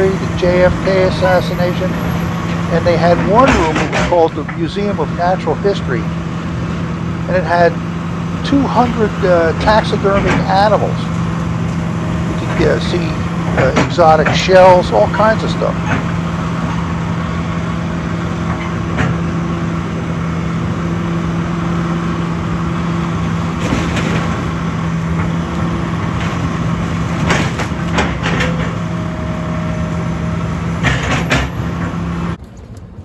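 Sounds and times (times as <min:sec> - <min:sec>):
knocks and clatters: 0:00.0 - 0:29.2, 0:30.5 - 0:32.4
engine running steadily: 0:00.0 - 0:33.0.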